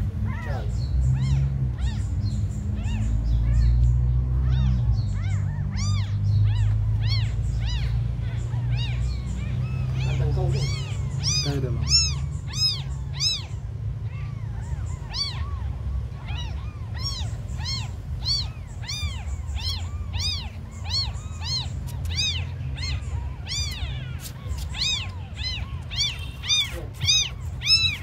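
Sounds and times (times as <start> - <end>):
kittens mewing: 0.0 - 28.0
low background rumble: 0.0 - 28.0.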